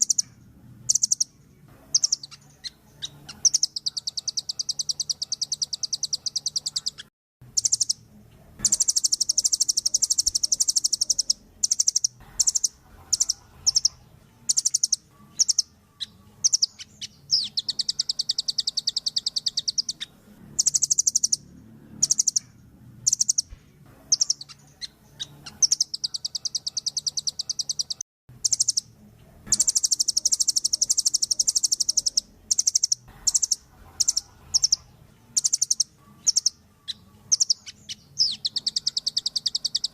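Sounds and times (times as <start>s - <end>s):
bird calling in rapid trills: 0.0s - 23.5s, 24.1s - 28.9s, 29.5s - 39.9s.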